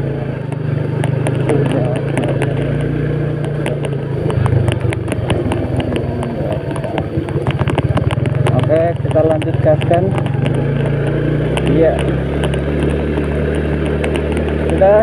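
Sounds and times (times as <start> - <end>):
small motorcycle engine running: 0.0 - 15.0
clicks and rattles over bumps: 0.4 - 15.0.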